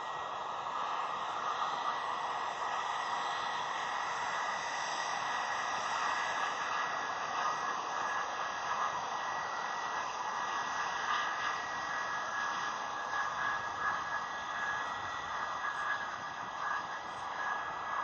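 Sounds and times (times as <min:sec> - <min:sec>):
high steady whine: 0:00.0 - 0:18.0
jet engines running: 0:00.0 - 0:18.0.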